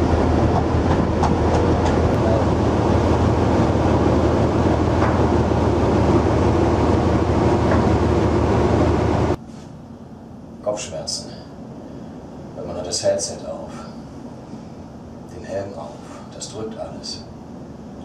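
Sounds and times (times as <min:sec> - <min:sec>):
ship engine drone: 0:00.0 - 0:18.0
wind and sea noise: 0:00.0 - 0:18.0.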